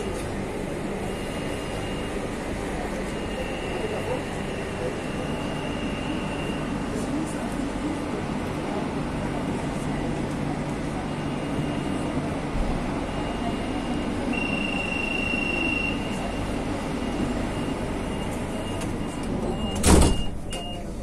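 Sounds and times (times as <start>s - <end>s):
train rumbling on rails: 0.0s - 20.8s.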